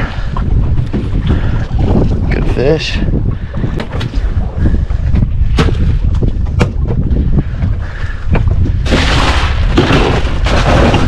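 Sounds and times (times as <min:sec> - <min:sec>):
wind rumbling over microphone: 0:00.0 - 0:11.0.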